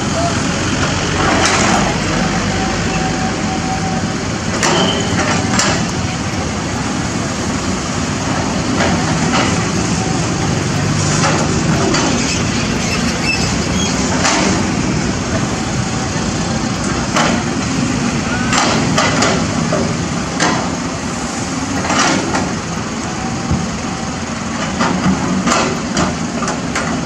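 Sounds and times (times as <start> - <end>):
excavator diesel engine under load: 0.0 - 27.0.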